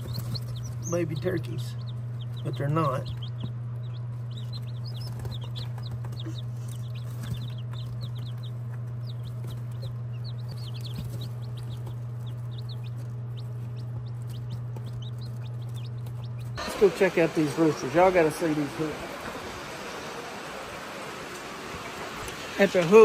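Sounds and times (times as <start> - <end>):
baby chicks peeping: 0.0 - 23.0
steady low hum: 0.0 - 23.0.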